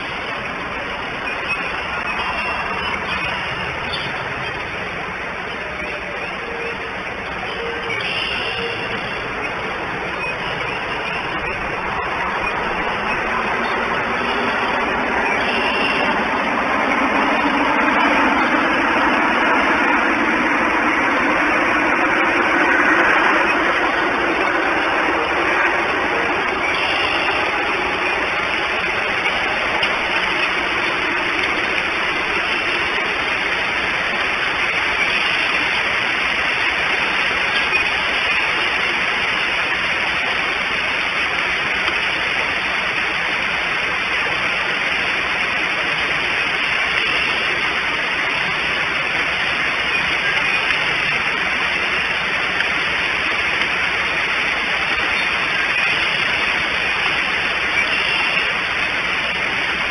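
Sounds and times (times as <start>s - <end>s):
steady outdoor hiss: 0.0s - 59.9s.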